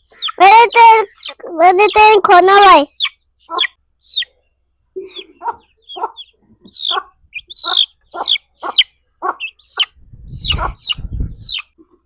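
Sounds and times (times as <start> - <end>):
chick peeping loudly: 0.0 - 11.8.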